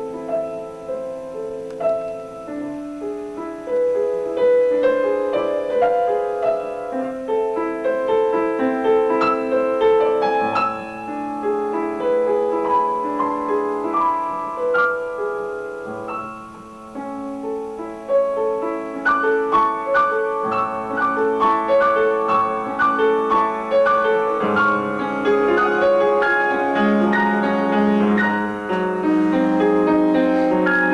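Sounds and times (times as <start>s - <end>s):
piano melody: 0.0s - 30.9s.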